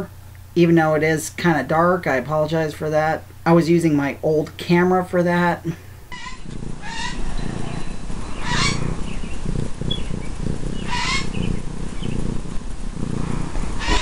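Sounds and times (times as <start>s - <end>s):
kitten purring: 0.0s - 14.0s.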